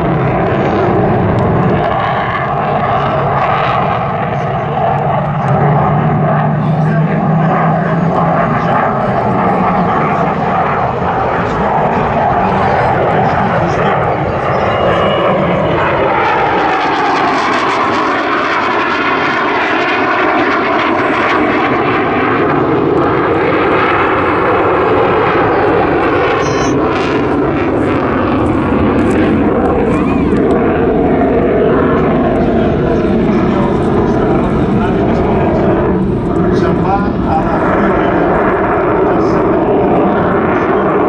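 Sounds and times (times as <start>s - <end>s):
jet flying overhead: 0.0s - 41.0s.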